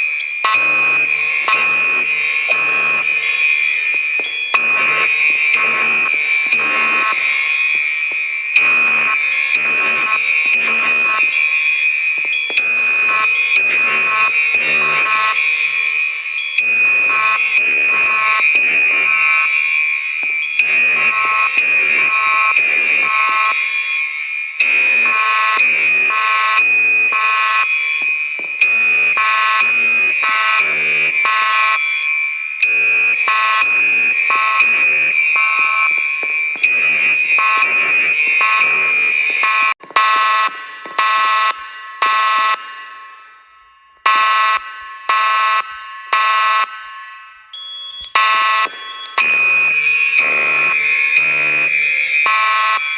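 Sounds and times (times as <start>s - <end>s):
fire alarm horn blasts: 0.0s - 42.6s, 44.0s - 52.9s
steady high alarm tone: 0.0s - 52.9s.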